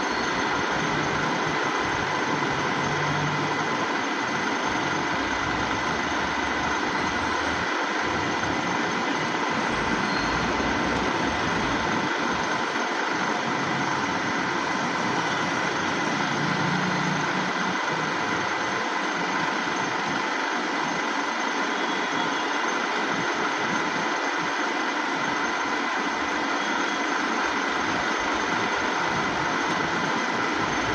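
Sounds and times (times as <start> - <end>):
milling machine humming: 0.0 - 21.6, 25.4 - 30.9.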